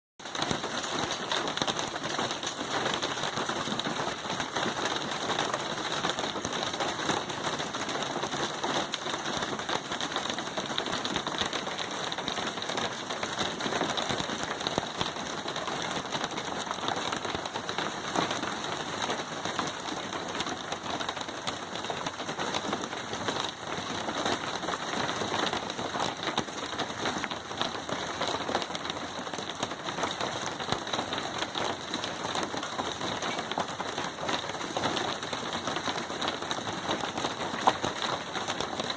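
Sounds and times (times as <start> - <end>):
hail on hard surfaces: 0.2 - 38.9.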